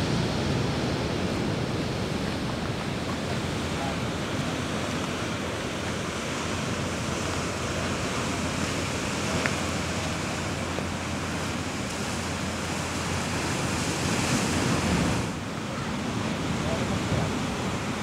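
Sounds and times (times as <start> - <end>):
surf breaking over rocks: 0.0 - 18.0.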